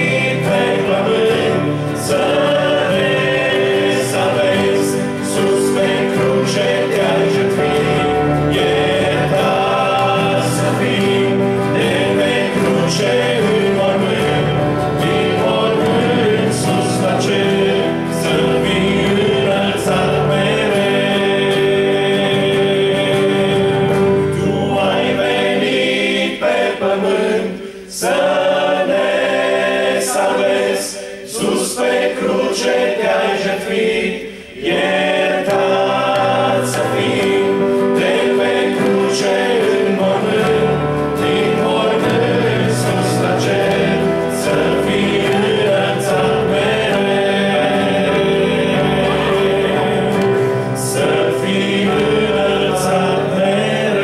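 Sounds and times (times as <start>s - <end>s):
strummed acoustic guitars: 0.0s - 33.4s, 34.3s - 54.0s
electronic keyboard: 0.0s - 54.0s
male group singing a hymn: 0.0s - 54.0s.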